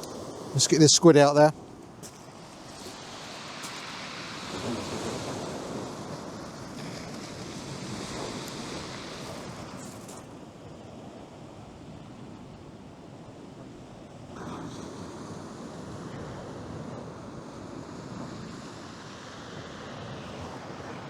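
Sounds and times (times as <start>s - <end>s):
surf breaking on beach: 0.0s - 12.4s, 13.4s - 21.0s
wind buffeting microphone: 0.0s - 21.0s.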